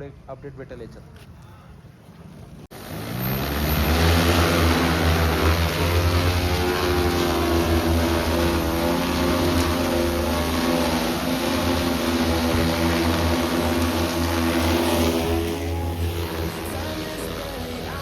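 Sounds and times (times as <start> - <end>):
vehicle engine droning: 2.2 - 18.0.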